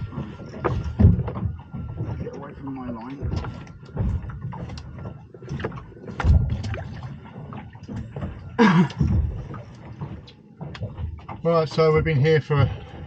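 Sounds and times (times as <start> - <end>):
boat knocking and thumping: 0.0 - 13.0
water slapping against hull: 0.0 - 13.0.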